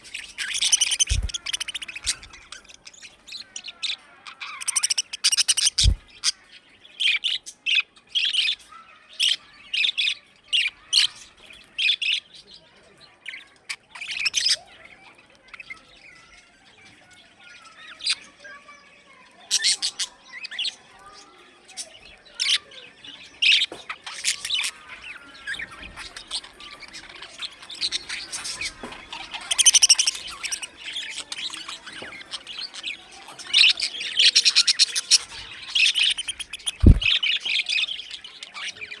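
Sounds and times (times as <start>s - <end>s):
budgerigars chirping: 0.0s - 16.2s, 21.7s - 39.0s
soft warbling chatter: 0.0s - 39.0s.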